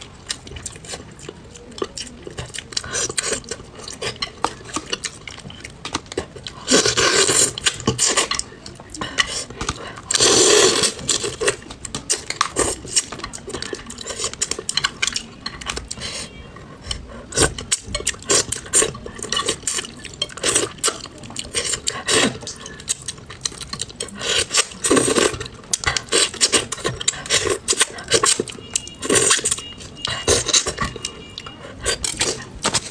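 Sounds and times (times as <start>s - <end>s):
wet chewing and smacking: 0.0s - 32.9s.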